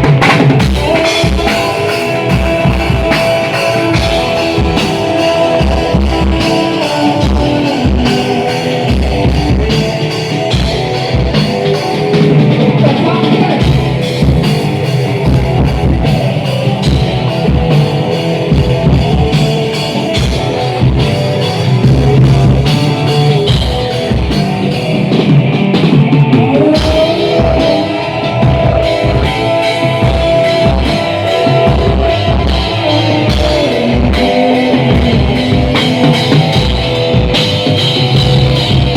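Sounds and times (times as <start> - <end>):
rock band playing loudly: 0.0 - 38.9.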